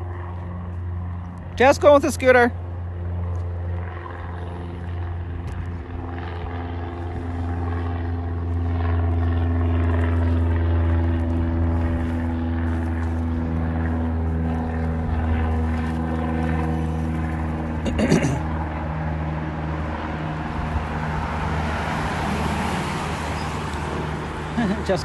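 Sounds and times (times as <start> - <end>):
scooter motor humming: 0.0 - 25.0.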